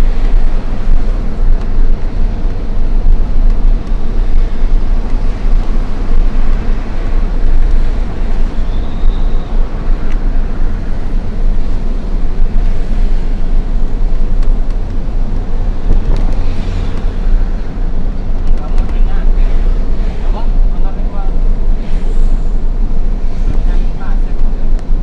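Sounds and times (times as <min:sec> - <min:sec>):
diesel truck engine rumble: 0:00.0 - 0:25.0
road noise: 0:00.0 - 0:25.0.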